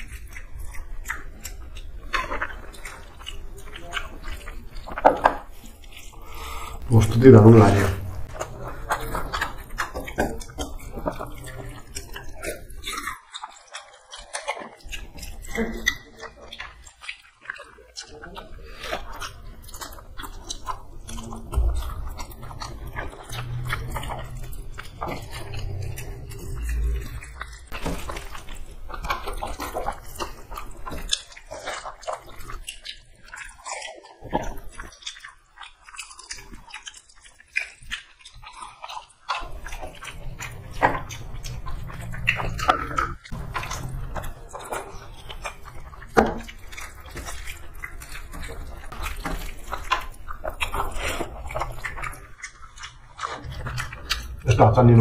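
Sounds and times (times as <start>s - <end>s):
wet mouth clicks and smacks: 0.0s - 7.3s, 8.0s - 54.7s
people chewing and biting: 0.0s - 55.0s.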